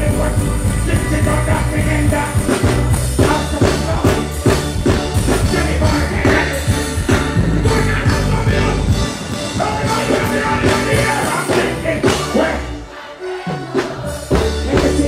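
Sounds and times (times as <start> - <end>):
steady drum beat: 0.0 - 12.6, 13.7 - 15.0
live music with heavy bass: 0.0 - 15.0.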